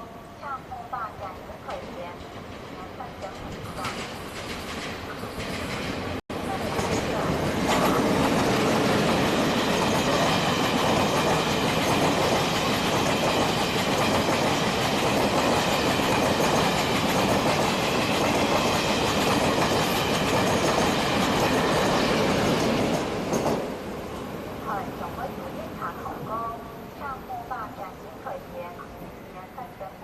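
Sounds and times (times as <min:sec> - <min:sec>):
train rumbling past: 0:01.2 - 0:30.0.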